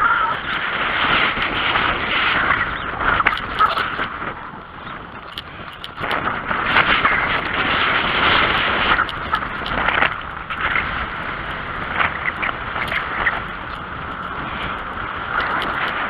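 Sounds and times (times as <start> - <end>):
bike clicks and rattles: 0.0 - 16.0
wind noise on microphone: 0.0 - 16.0.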